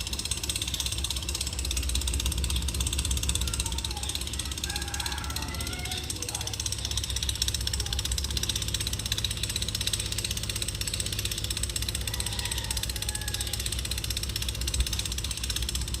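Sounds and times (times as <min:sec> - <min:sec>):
small motor fan rattling: 0:00.0 - 0:16.0.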